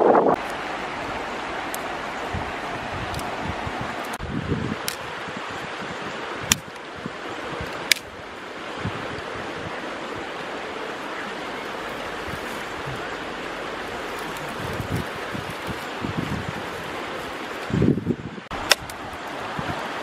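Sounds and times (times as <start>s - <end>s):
river flowing: 0.4s - 20.0s.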